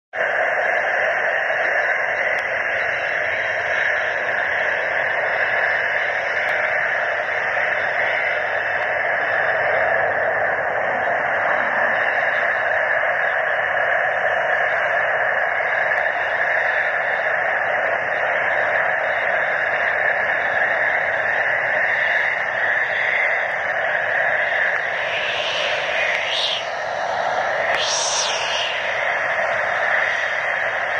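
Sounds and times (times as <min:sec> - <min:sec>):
jet engines taxiing: 0:00.2 - 0:30.9.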